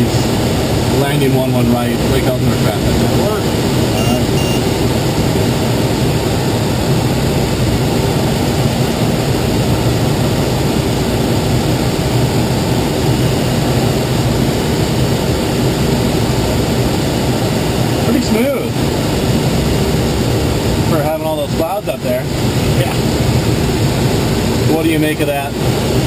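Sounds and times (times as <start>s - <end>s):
air rushing in cockpit: 0.0s - 26.0s
plane engine droning: 0.0s - 26.0s.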